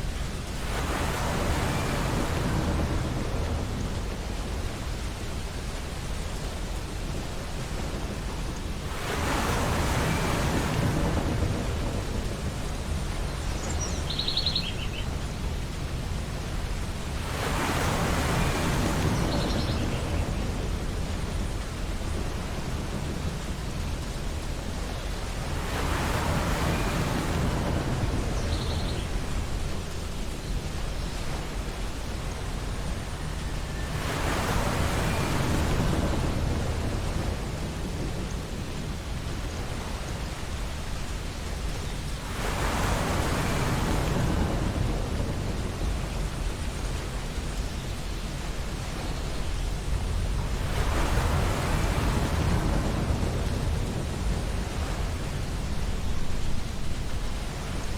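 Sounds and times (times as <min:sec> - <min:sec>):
ocean waves breaking on beach: 0:00.0 - 0:57.9.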